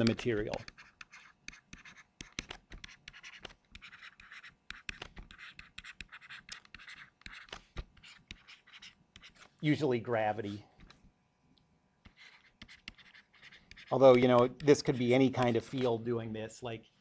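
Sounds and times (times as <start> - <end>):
stylus scratching on tablet: 0.0 - 9.8, 12.0 - 16.0.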